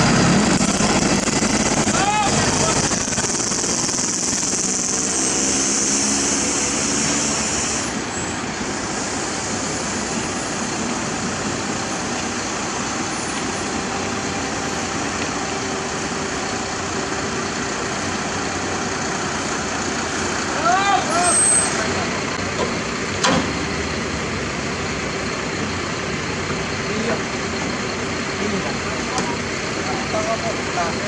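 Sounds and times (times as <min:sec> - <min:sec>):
heavy vehicle engines running: 0:00.0 - 0:31.0
pitched engine drone: 0:00.0 - 0:31.0
road traffic noise: 0:00.0 - 0:31.0.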